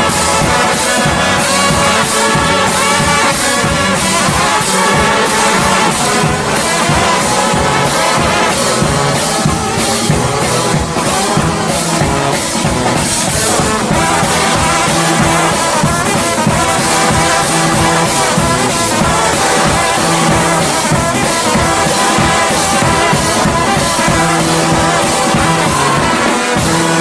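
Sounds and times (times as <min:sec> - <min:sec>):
brass band playing: 0:00.0 - 0:27.0
drums and cymbals: 0:00.0 - 0:27.0.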